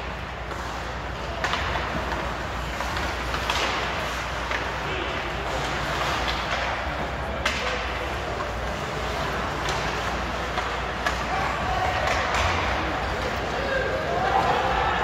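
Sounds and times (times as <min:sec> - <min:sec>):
hockey sticks and puck cracking: 0:00.0 - 0:15.0
ice rink din: 0:00.0 - 0:15.0.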